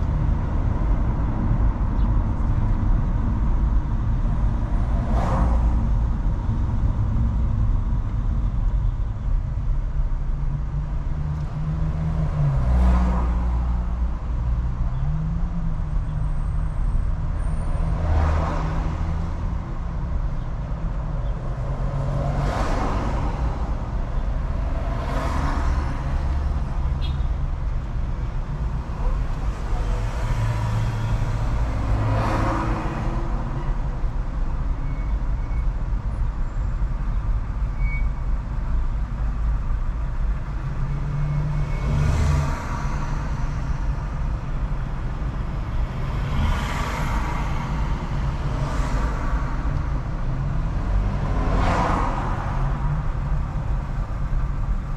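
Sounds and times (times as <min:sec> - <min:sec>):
car road rumble: 0:00.0 - 0:54.9
vehicles rushing past: 0:00.0 - 0:54.9.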